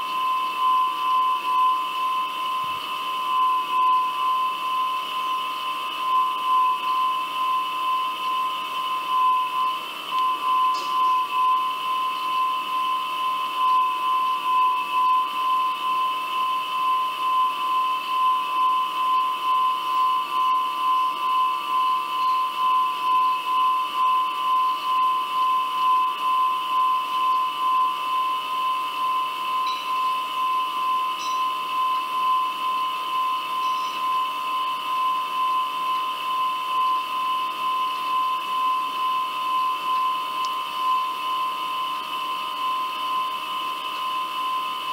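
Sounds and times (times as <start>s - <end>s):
pulsing high-pitched whine: 0.0s - 44.9s.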